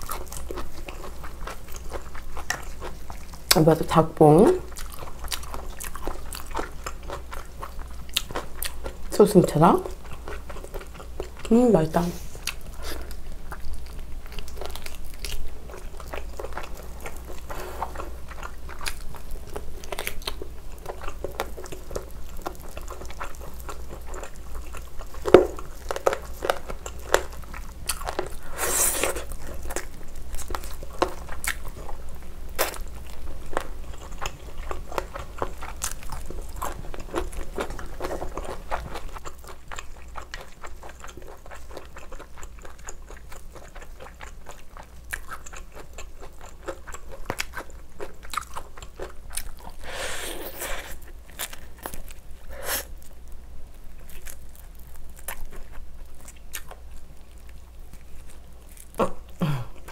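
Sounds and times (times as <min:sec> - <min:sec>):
chewing and mouth clicks: 0:00.0 - 0:03.6, 0:04.7 - 0:09.1, 0:12.4 - 0:32.0, 0:32.6 - 0:49.9, 0:54.0 - 0:59.9.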